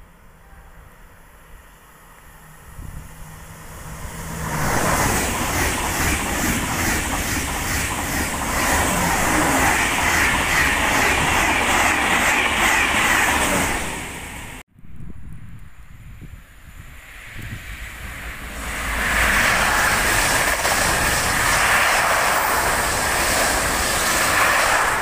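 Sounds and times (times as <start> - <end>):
high-speed train passing: 0.0 - 14.7, 15.5 - 25.0.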